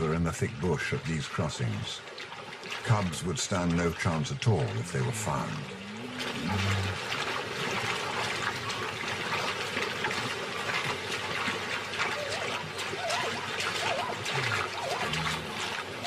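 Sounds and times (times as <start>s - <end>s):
water rushing and splashing: 0.0s - 16.0s.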